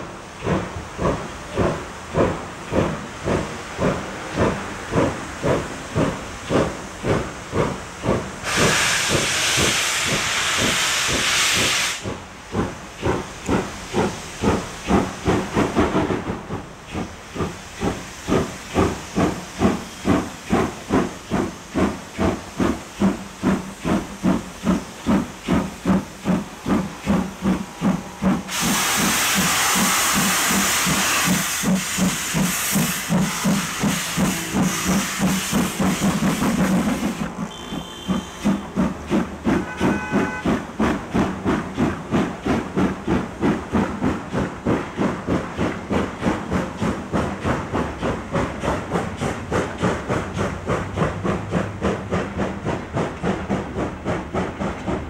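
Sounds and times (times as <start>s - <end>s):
steam hissing: 0.0s - 55.0s
steam locomotive exhaust beats: 0.0s - 55.0s.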